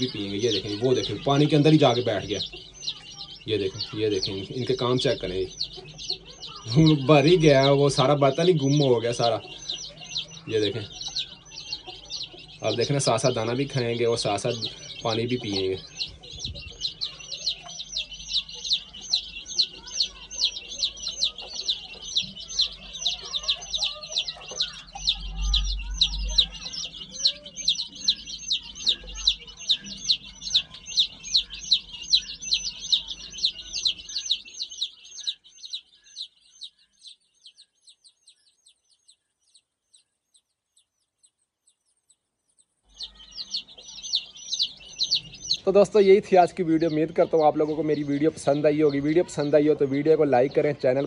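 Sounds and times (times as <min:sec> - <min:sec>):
chicks cheeping: 0:00.0 - 0:51.0.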